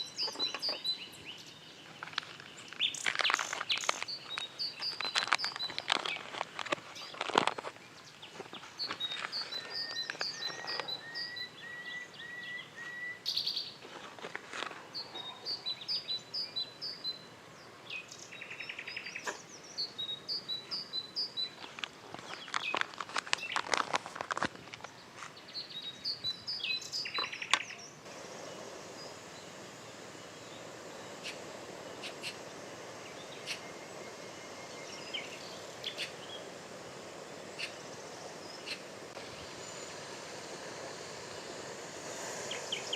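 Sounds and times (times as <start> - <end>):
birds chirping: 0.0 - 23.8, 24.8 - 42.9
steady hiss: 0.0 - 42.9.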